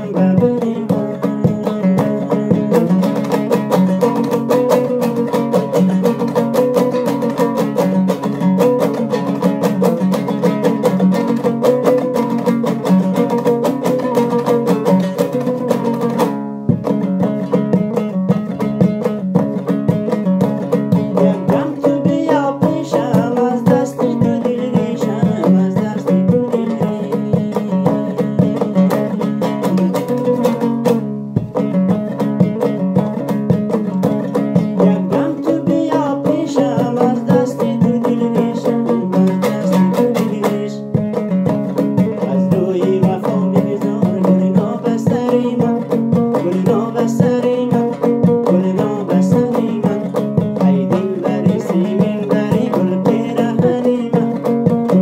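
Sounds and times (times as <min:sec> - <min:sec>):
lute strummed rapidly: 0:00.0 - 0:55.0.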